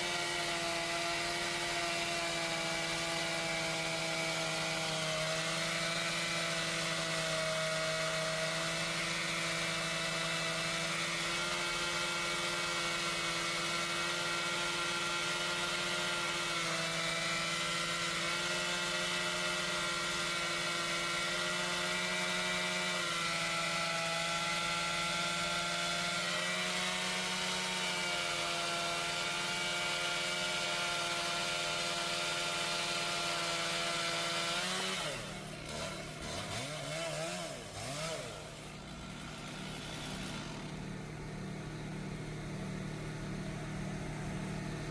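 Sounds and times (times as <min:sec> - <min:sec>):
chainsaw running: 0:00.0 - 0:44.9.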